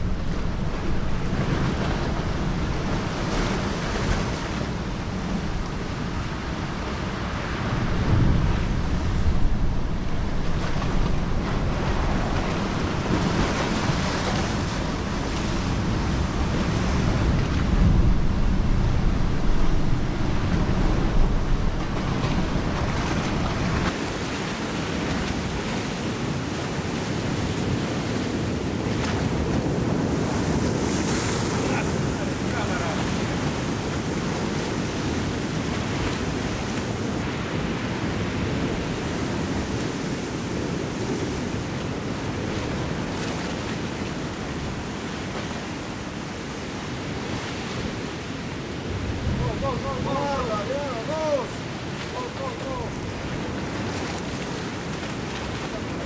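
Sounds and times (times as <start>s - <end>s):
sea surf washing against rocks: 0.0s - 56.0s
wind buffeting microphone: 0.0s - 56.0s.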